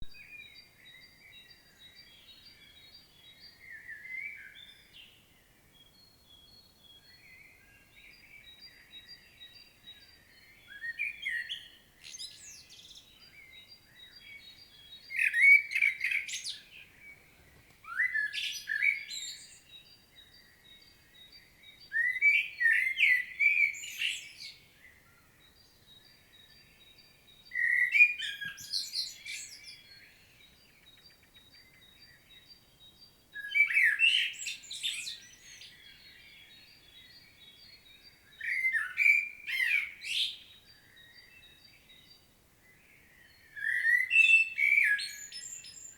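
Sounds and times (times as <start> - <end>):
blackbird singing: 0.0 - 45.9.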